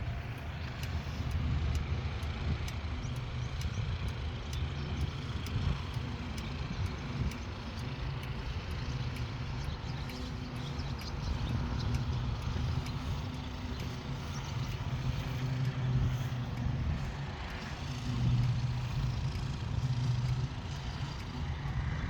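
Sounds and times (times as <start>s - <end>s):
light regular ticking: 0.0s - 22.0s
low engine rumble: 0.0s - 22.0s.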